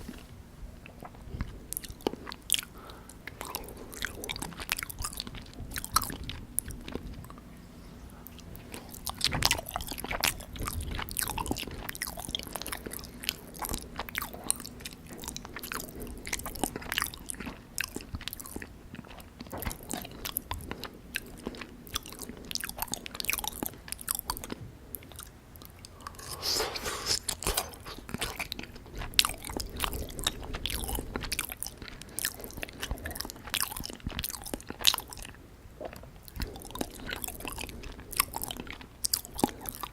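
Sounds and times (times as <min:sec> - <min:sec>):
wet chewing mouth sounds: 0:00.8 - 0:07.5, 0:08.1 - 0:39.9.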